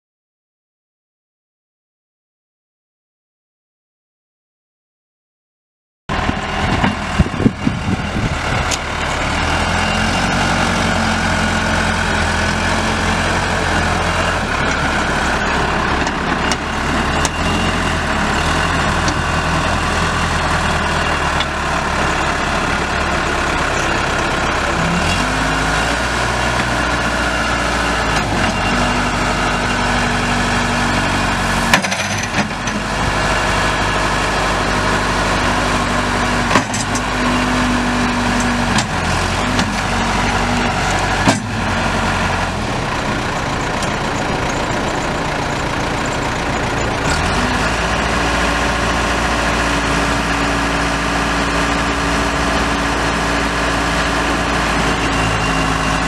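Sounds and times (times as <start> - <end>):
diesel engine running: 6.1 - 56.0.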